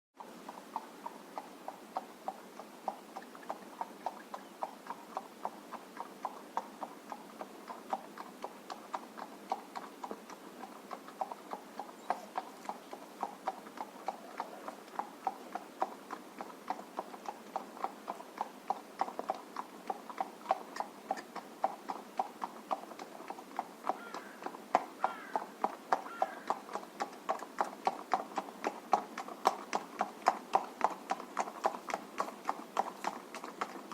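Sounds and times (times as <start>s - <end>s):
horse hooves clip-clopping on road: 0.2s - 33.9s.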